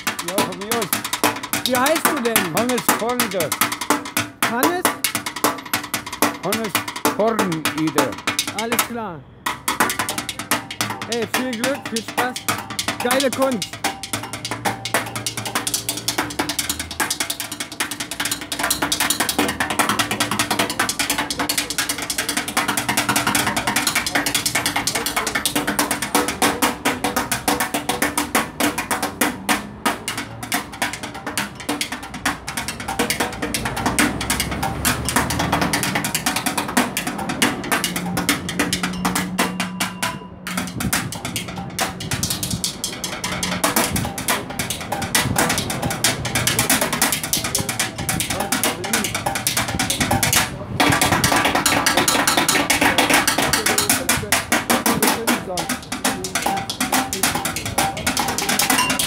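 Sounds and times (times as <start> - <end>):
drumsticks on plastic bin: 0.0 - 59.0.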